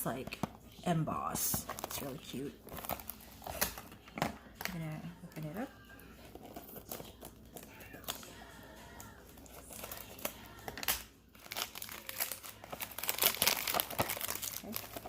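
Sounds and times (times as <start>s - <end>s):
cardboard packaging crinkling: 0.0s - 15.0s
faint pop song: 0.0s - 15.0s.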